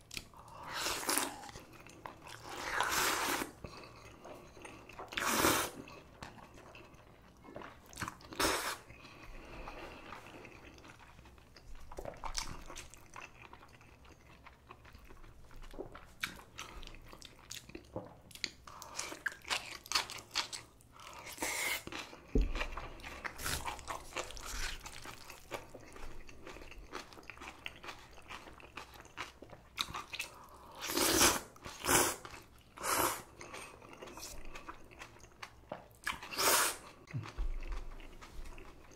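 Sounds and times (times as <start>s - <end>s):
chewing and crunching noodles: 0.0s - 38.9s.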